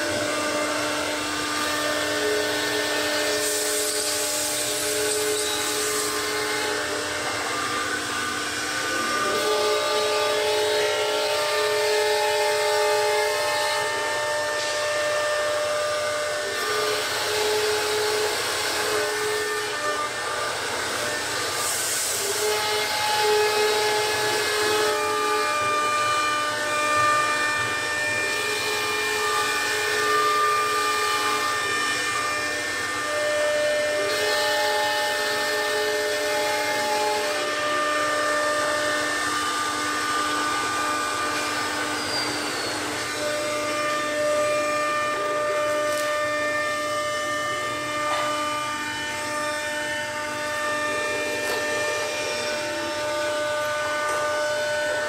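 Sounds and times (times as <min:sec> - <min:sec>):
cnc router whine: 0:00.0 - 0:55.0
router bit cutting hiss: 0:00.0 - 0:55.0.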